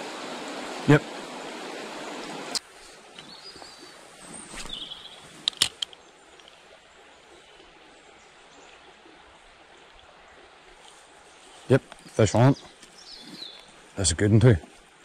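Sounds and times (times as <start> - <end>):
river water rushing over stones: 0.0 - 15.0.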